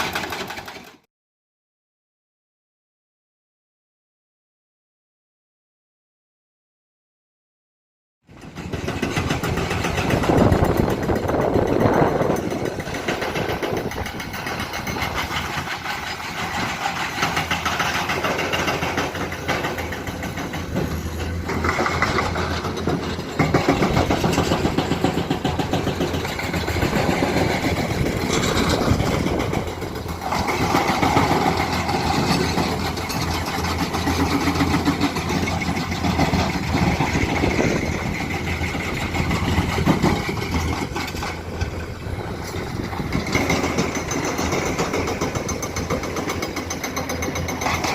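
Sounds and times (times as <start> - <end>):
diesel engine under load: 0.0 - 1.0, 8.3 - 47.9
hydraulic breaker hammering rock: 0.0 - 1.0, 8.3 - 47.9.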